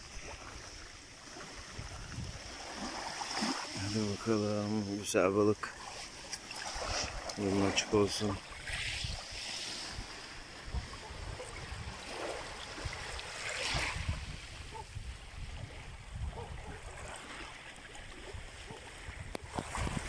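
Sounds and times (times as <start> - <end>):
wind rumbling on microphone: 0.0 - 3.1, 6.6 - 20.0
small waves lapping on sand: 0.0 - 20.0.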